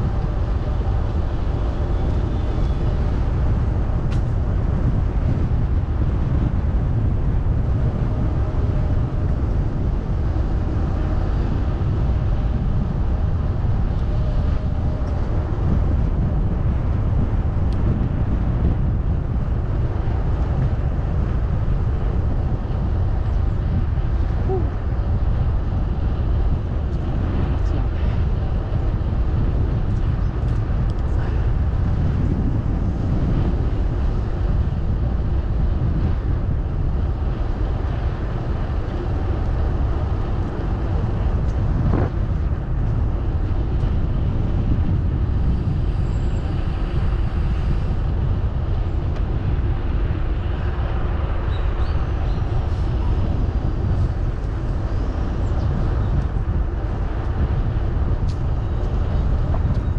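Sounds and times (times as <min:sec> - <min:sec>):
wind rumble: 0:00.0 - 0:59.9.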